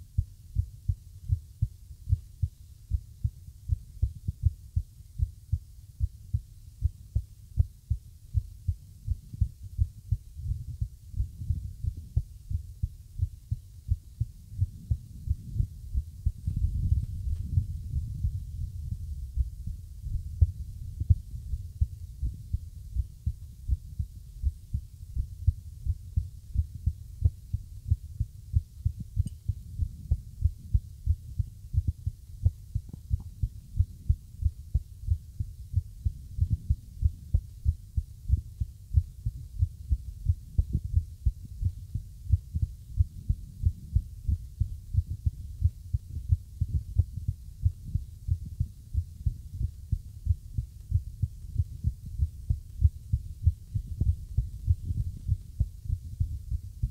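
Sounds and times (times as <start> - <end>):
heartbeat thuds: 0.0 - 56.9.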